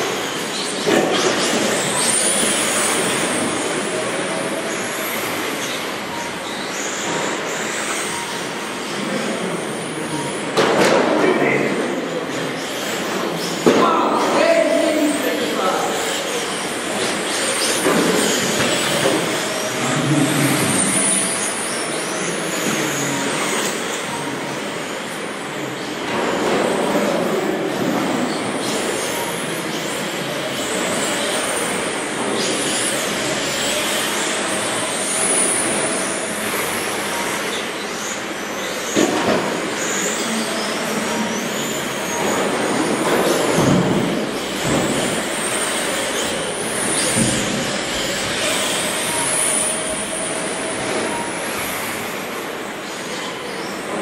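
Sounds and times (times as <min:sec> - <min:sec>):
rc truck motors revving: 0:00.0 - 0:10.5, 0:15.1 - 0:53.9.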